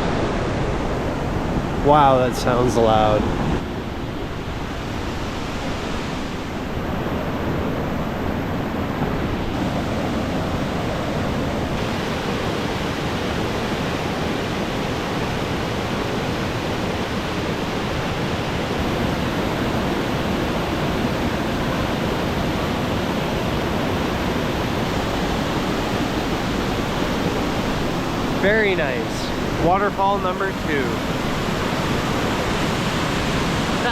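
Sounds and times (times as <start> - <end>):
waterfall rushing: 0.0 - 3.6, 4.4 - 33.9.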